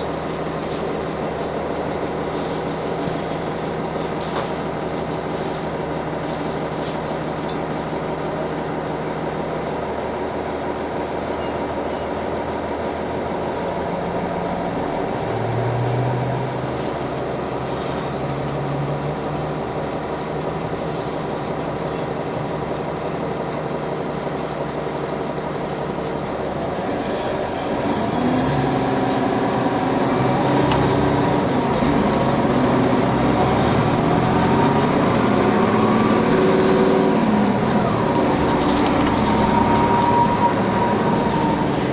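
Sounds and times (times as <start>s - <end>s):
bus engine drone: 0.0s - 41.9s.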